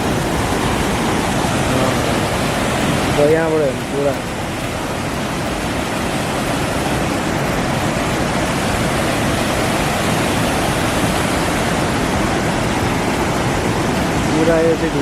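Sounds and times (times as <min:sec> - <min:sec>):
stream and waterfall rushing: 0:00.0 - 0:15.0.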